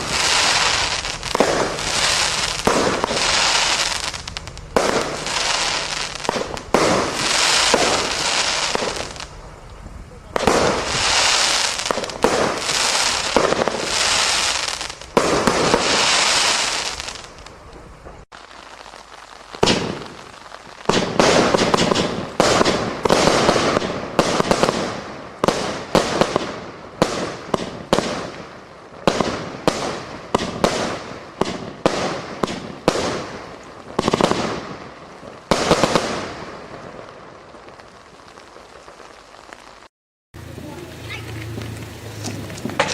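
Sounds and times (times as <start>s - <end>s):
firework bangs: 0.0s - 42.9s
fireworks crackling and hissing: 0.0s - 42.9s.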